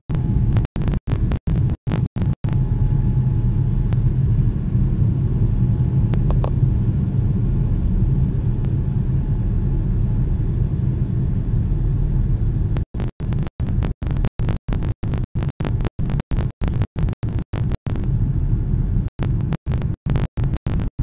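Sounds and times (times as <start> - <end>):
aircraft engines and airflow rumble: 0.1 - 20.9
faint steady whine: 0.1 - 21.0.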